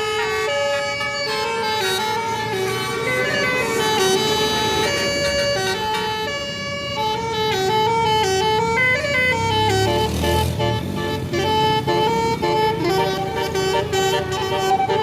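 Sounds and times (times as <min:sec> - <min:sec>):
bus engine rumble: 0:00.0 - 0:15.0
musical bus horn playing a tune: 0:00.0 - 0:15.0.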